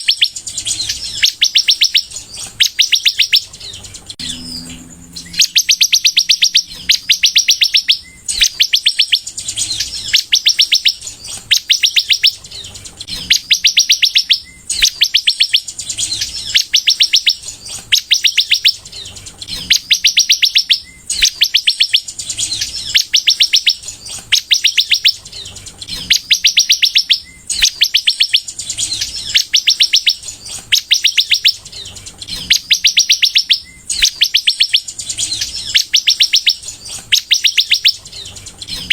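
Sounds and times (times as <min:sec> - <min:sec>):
bird singing rattling trill: 0:00.0 - 0:38.9.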